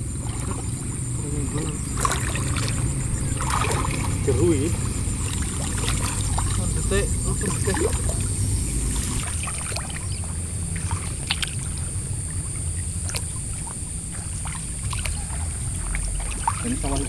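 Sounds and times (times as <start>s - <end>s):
low rumble: 0.0s - 16.5s
feet wading through water: 0.0s - 17.0s.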